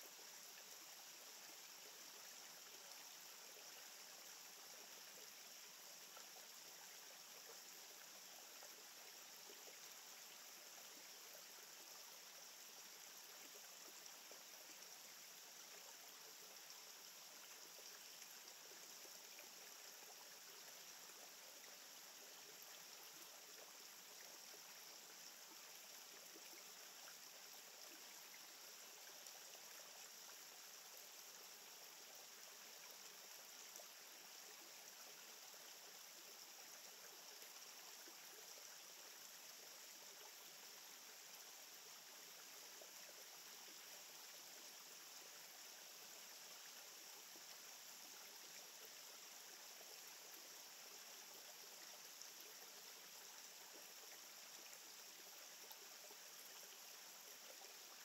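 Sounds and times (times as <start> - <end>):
faint outdoor hiss: 0.0 - 58.0.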